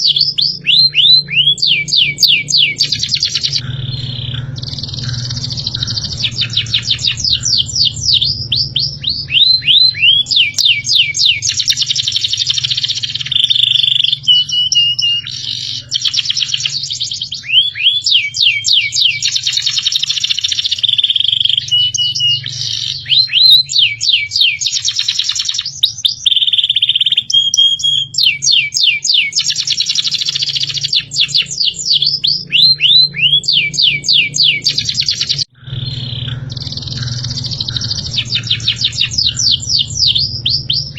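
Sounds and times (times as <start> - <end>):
steady low hum: 0.0 - 23.8, 30.1 - 40.9
songbird chirps and trills: 0.0 - 40.9.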